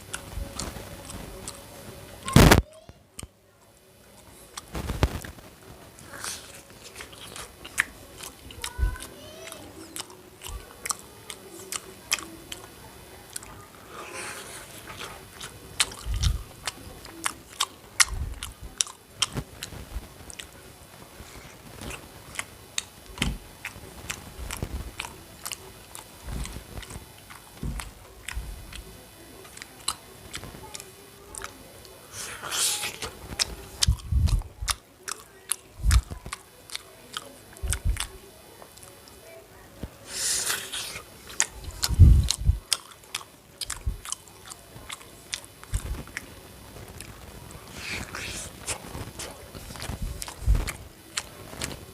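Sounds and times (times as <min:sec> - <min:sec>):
chewing and biting food: 0:00.0 - 0:01.6, 0:06.0 - 0:39.2, 0:40.1 - 0:46.3, 0:46.9 - 0:51.9
food crunching: 0:00.0 - 0:03.4, 0:04.0 - 0:39.2, 0:39.8 - 0:51.9.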